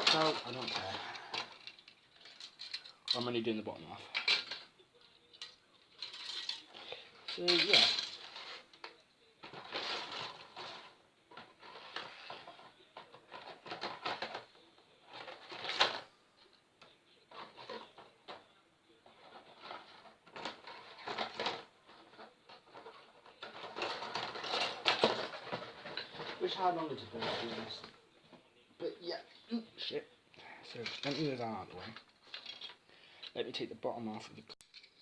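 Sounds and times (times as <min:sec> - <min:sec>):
plastic parts rustling and scraping: 0:00.0 - 0:28.5, 0:29.8 - 0:35.0.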